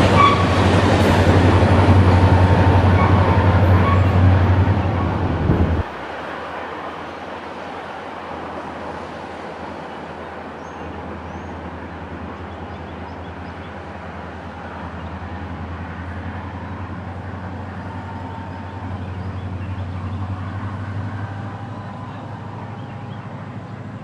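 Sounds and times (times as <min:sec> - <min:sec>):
low engine rumble: 0:00.0 - 0:06.2, 0:09.9 - 0:24.0
road traffic passing: 0:00.0 - 0:24.0.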